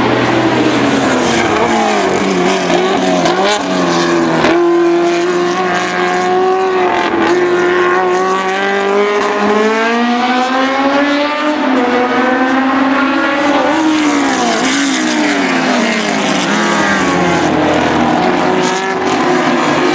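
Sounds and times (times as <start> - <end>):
racing car engines revving: 0.0 - 19.9.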